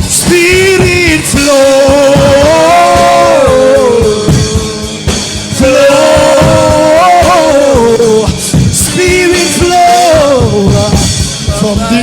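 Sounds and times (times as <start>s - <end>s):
band with drum kit: 0.0s - 12.0s
person singing gospel: 0.0s - 12.0s.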